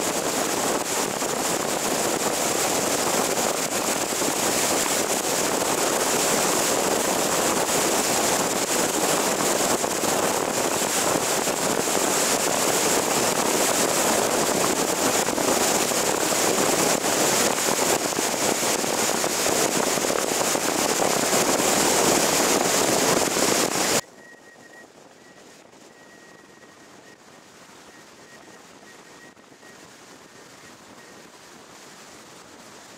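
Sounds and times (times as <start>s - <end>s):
car road and wind noise: 0.0s - 32.9s.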